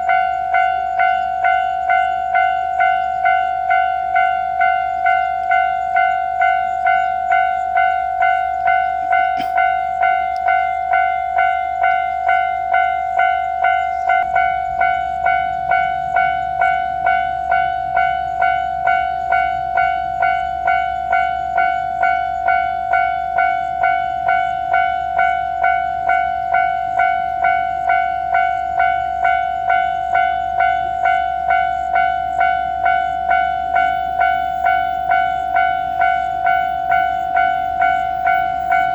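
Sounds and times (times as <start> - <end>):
level crossing bell ringing: 0.0 - 38.9.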